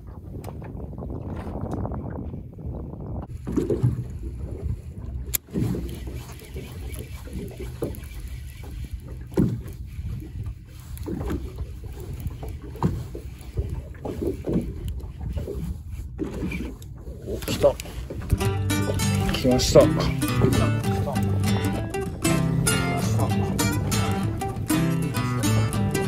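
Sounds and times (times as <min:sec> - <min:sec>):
wind rumble on microphone: 0:00.0 - 0:24.9
waves slapping against boat hull: 0:00.0 - 0:26.0.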